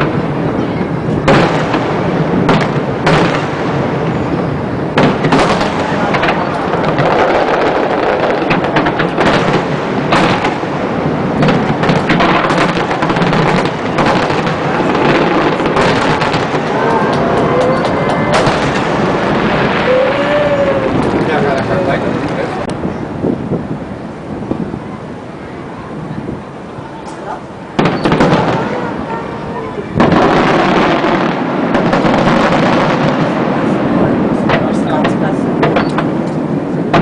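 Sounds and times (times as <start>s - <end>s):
fireworks bangs: 0.0s - 25.2s, 25.9s - 37.0s
fireworks crackling: 0.0s - 37.0s.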